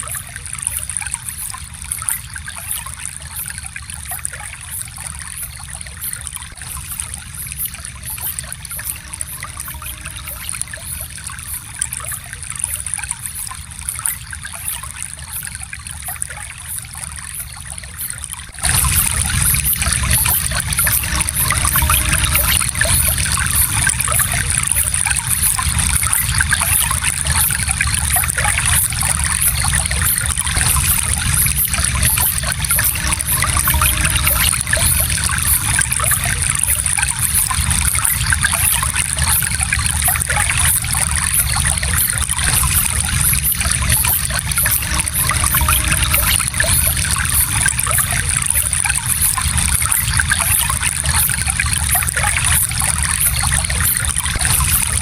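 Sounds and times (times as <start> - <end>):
small stream flowing: 0.0 - 55.0.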